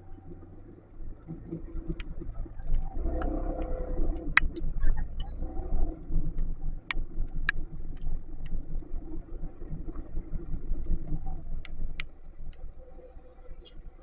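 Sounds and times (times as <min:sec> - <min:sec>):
motorcycle engine and road rumble: 0:00.0 - 0:14.0.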